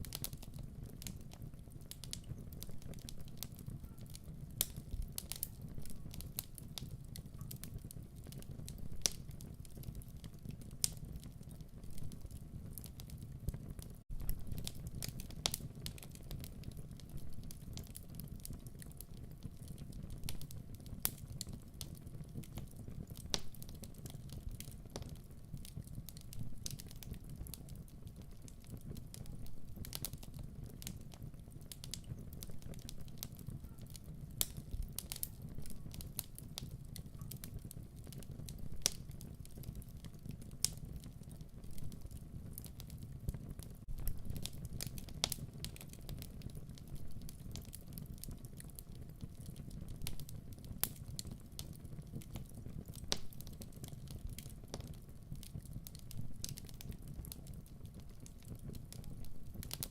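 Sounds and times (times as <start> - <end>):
fire crackles and pops: 0.0 - 59.9
low rumble of flames: 0.0 - 59.9.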